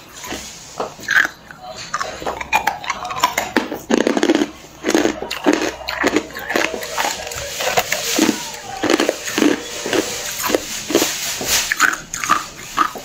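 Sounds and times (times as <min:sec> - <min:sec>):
ice crunching between teeth: 0:02.0 - 0:13.0.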